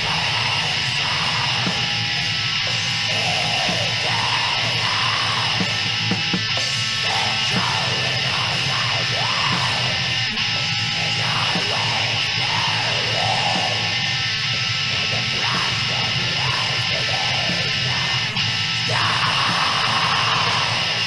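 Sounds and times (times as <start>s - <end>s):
distorted electric guitar: 0.0s - 21.0s
shrieked vocal: 0.0s - 21.0s.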